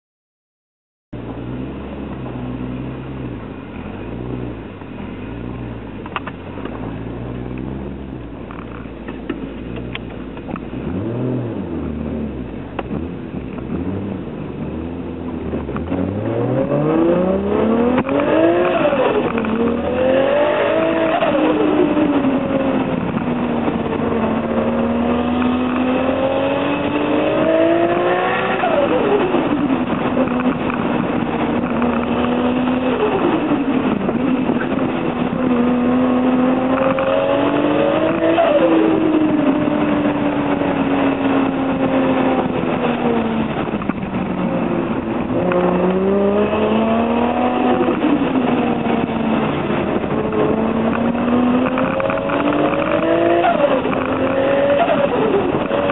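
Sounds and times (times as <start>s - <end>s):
car engine revving through gears: 1.2s - 55.9s.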